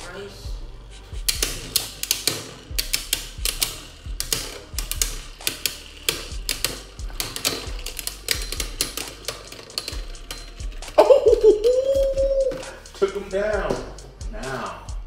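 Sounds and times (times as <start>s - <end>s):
spinning tops clicking and knocking: 1.2s - 14.2s.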